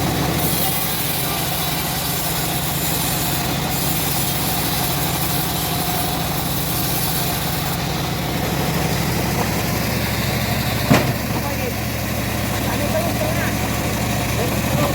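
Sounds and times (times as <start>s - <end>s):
sawmill mechanical drone: 0.0s - 14.9s.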